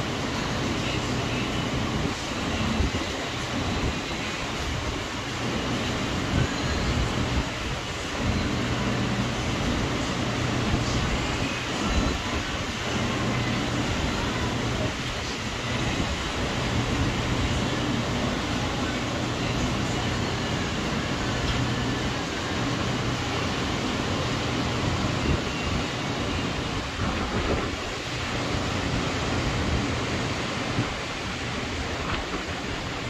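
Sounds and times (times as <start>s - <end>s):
wind on microphone: 1.3s - 33.0s.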